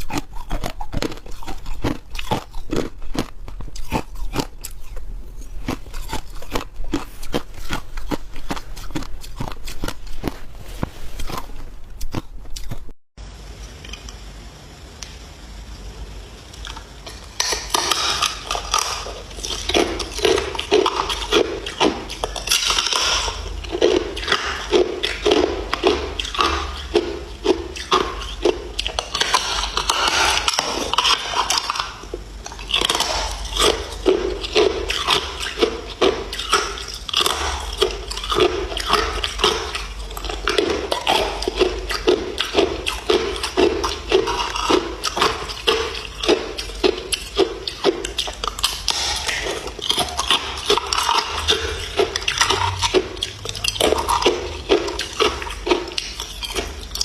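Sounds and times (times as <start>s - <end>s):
ice crunching between teeth: 0.0s - 13.0s, 16.6s - 57.0s.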